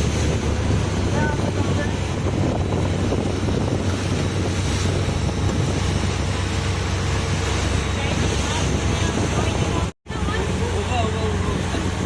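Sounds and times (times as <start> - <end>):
sea noise: 0.0 - 12.0
wind buffeting microphone: 0.0 - 12.0.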